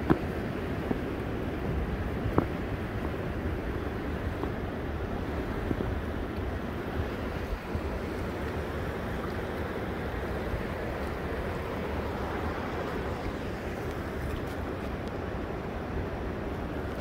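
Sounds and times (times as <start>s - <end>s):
rushing river rapids: 0.0s - 17.0s.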